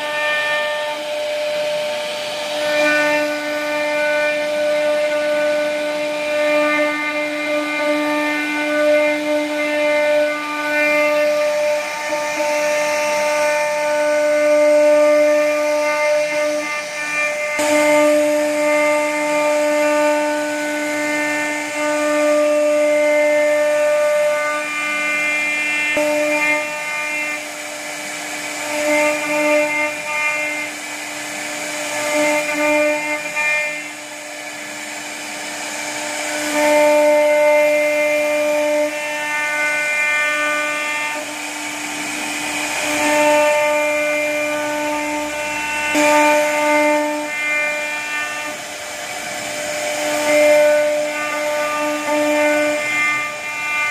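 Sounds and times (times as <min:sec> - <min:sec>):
bit cutting wood: 0:00.0 - 0:53.9
router spindle whining: 0:00.0 - 0:53.9.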